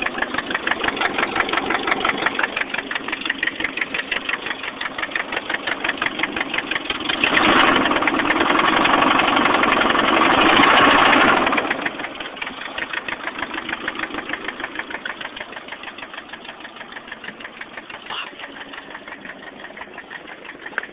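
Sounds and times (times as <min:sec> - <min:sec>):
car engine with ticking knock: 0:00.0 - 0:20.9.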